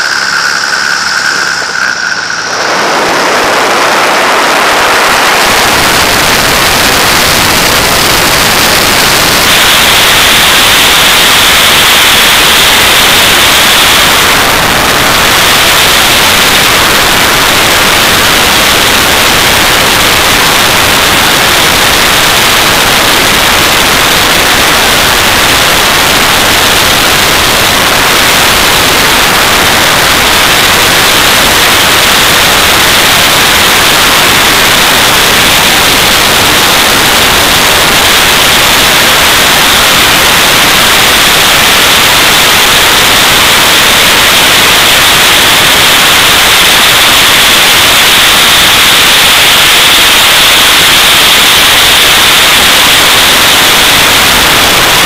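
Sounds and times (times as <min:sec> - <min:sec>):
steady high tone: 0:00.0 - 0:55.0
wind rushing over microphone: 0:00.0 - 0:55.0.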